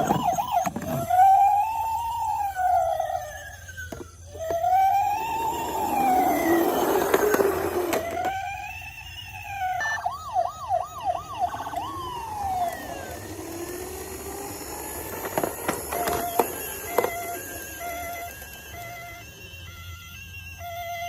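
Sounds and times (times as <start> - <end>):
toy siren wailing: 0.0 - 21.0.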